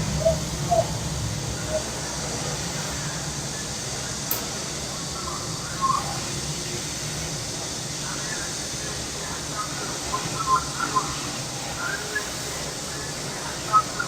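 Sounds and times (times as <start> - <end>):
cicadas droning: 0.0 - 14.0
low background hum: 0.0 - 14.0.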